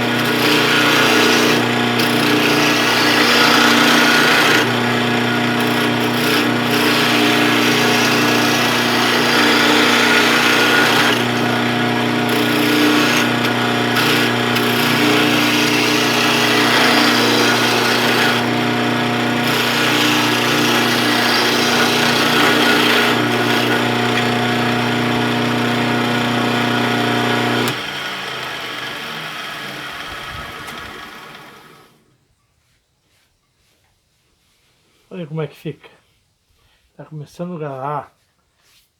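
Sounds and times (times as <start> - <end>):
turning tool cutting wood: 0.0 - 32.2
wood lathe motor hum: 0.0 - 32.2.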